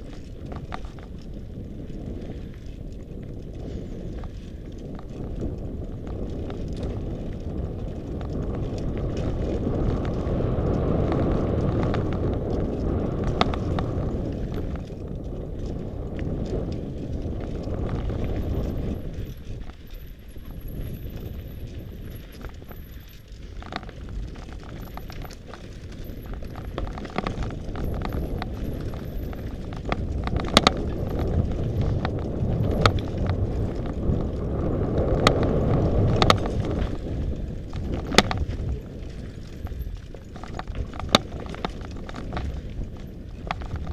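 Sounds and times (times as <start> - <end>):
bike tyres rumbling on dirt trail: 0.0 - 43.9
bike knocking on stones: 3.8 - 43.9.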